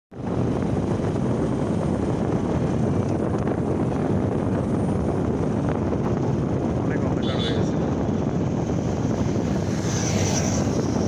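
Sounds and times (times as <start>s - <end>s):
wind: 0.1s - 11.0s
motorcycle engine rumble: 0.2s - 11.0s
tyres on road: 0.2s - 11.0s.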